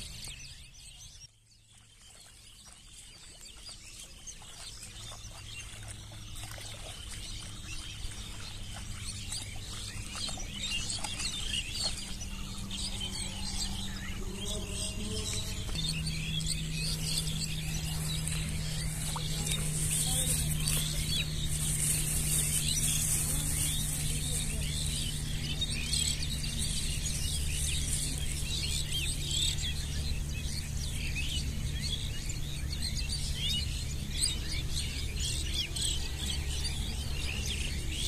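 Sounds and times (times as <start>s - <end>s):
birds chirping and twittering: 0.0s - 38.0s
low steady hum: 0.0s - 38.0s.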